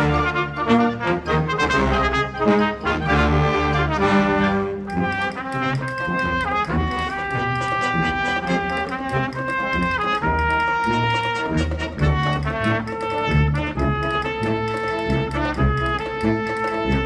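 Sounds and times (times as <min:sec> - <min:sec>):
brass ensemble playing: 0:00.0 - 0:17.0.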